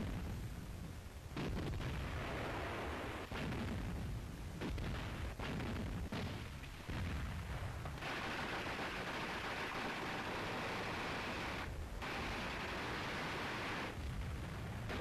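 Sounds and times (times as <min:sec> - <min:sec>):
film soundtrack hiss: 0:00.0 - 0:15.0
artillery and gun shots: 0:01.3 - 0:15.0.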